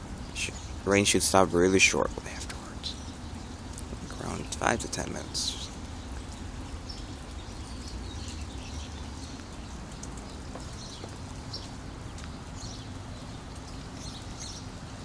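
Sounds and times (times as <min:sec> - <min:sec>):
water drips: 0:00.0 - 0:15.0.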